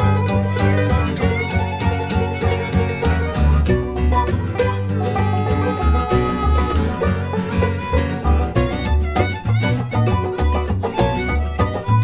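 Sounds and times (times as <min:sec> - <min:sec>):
bluegrass band playing blues: 0:00.0 - 0:12.0
harmonica line: 0:00.0 - 0:12.0
upright bass notes: 0:00.0 - 0:12.0.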